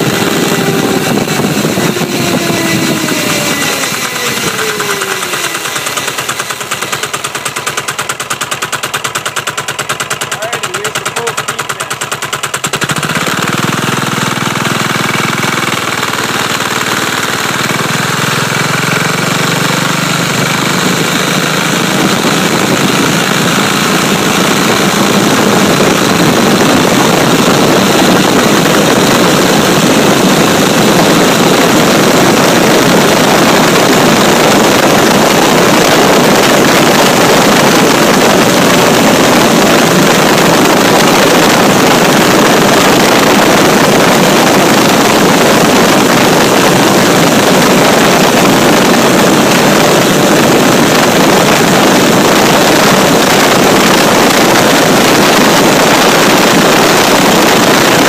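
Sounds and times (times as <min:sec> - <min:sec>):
wind rush on microphone: 0:00.0 - 0:07.5, 0:18.5 - 0:58.0
motorcycle engine under load: 0:00.0 - 0:58.0.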